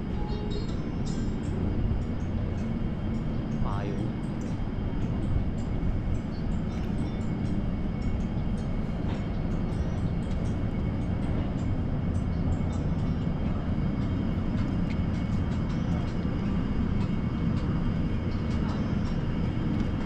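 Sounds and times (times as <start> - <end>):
low rumble of store ambience: 0.0 - 20.0.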